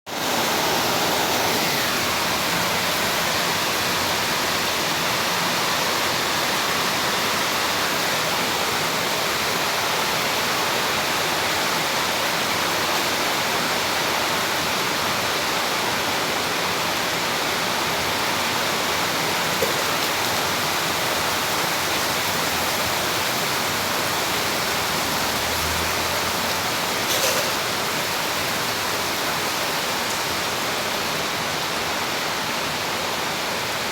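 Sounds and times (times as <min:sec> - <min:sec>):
heavy rain downpour: 0:00.1 - 0:33.9.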